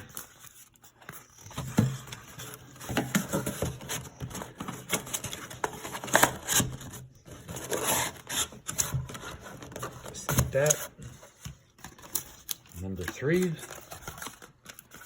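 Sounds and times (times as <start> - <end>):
cardboard scraping and rustling: 0.0 - 15.0.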